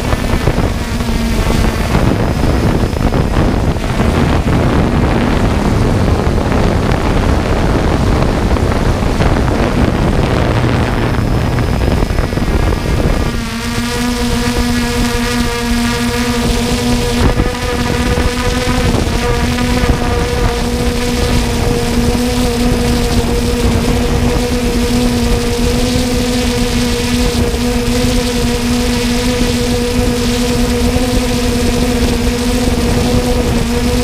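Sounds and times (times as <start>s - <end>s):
drone motors humming: 0.0s - 34.0s
wind noise on microphone: 0.0s - 34.0s.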